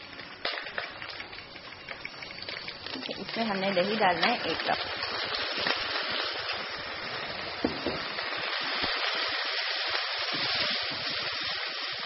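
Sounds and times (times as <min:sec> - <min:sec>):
oil sizzling in a pot: 0:00.0 - 0:12.0
small crackles: 0:00.0 - 0:12.0
steam hissing: 0:00.0 - 0:12.0.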